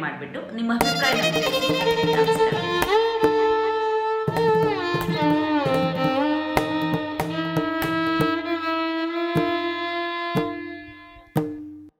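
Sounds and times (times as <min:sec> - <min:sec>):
bowed string melody: 0:00.8 - 0:11.9
drum strokes: 0:00.8 - 0:11.9.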